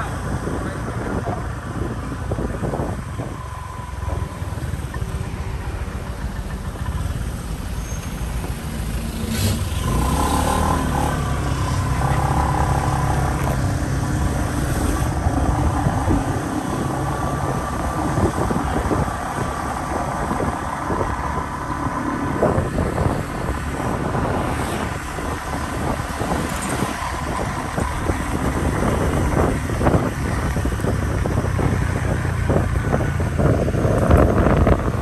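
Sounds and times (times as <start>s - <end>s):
motorbike engine hum: 0.0s - 35.0s
wind buffeting microphone: 0.0s - 35.0s.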